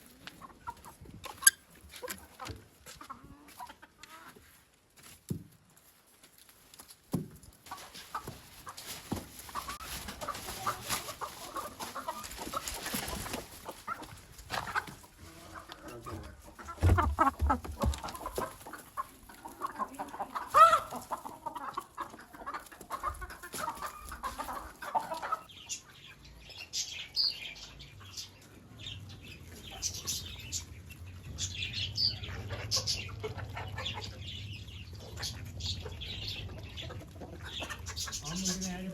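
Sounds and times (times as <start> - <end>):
chicks peeping: 0.0 - 4.6, 7.7 - 38.9
chickens clucking: 0.0 - 38.9.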